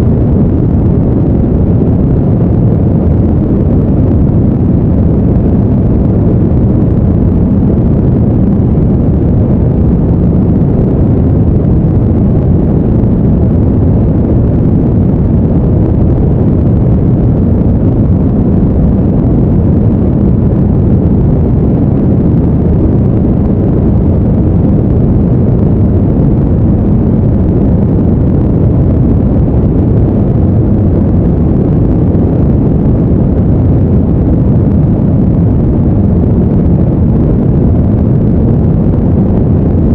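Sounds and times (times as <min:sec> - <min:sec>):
deep rumbling noise: 0:00.0 - 0:39.9.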